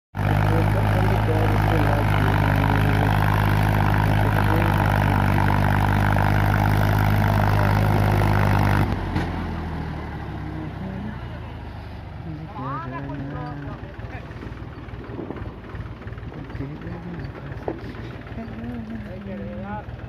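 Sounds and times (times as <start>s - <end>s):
tractor diesel engine running: 0.2s - 20.0s.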